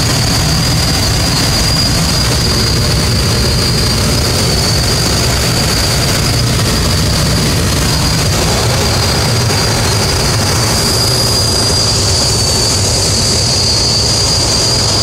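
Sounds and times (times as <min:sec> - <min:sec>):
plane engine drone: 0:00.0 - 0:15.0
rush of air: 0:00.0 - 0:15.0
thin high whine: 0:00.0 - 0:15.0.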